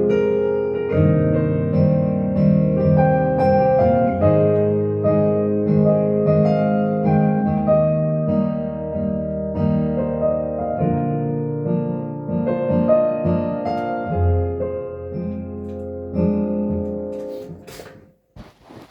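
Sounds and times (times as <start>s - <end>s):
digital piano melody: 0.0s - 17.7s.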